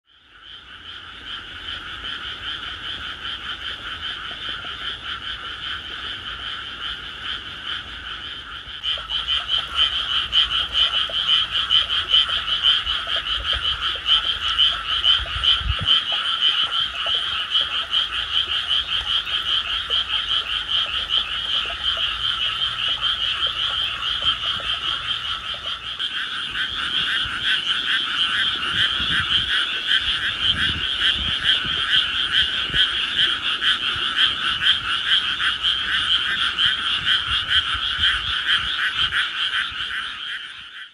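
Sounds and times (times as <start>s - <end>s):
frogs croaking in chorus: 0.1s - 40.9s.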